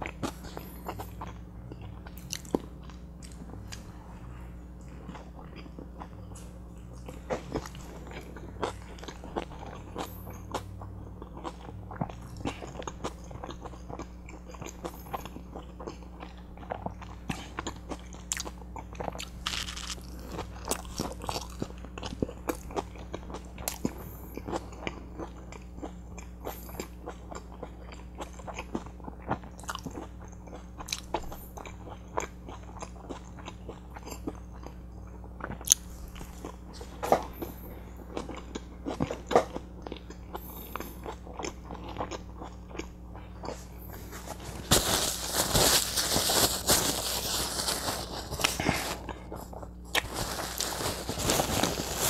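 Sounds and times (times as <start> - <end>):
close chewing and biting: 0.0 - 52.0
faint low hum: 0.0 - 52.0.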